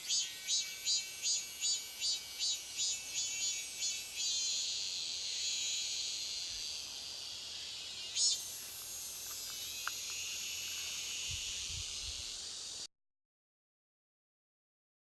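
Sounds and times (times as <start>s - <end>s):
cicadas pulsing buzz: 0.0s - 12.9s
high insect drone: 0.0s - 12.9s.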